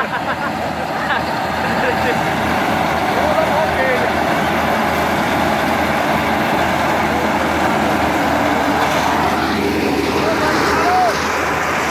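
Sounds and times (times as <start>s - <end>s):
combine harvester engine drone: 0.0s - 11.9s.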